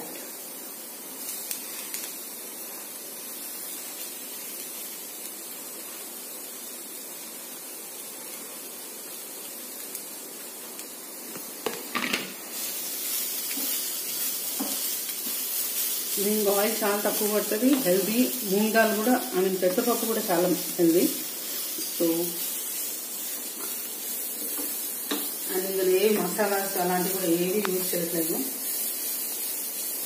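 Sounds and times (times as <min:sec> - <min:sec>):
oil sizzling in a frying pan: 0:00.0 - 0:30.0.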